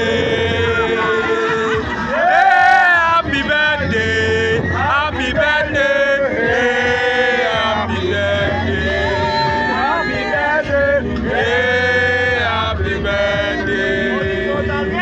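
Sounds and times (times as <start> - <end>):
men singing chant-like song: 0.0 - 15.0
steady low drone: 0.0 - 15.0.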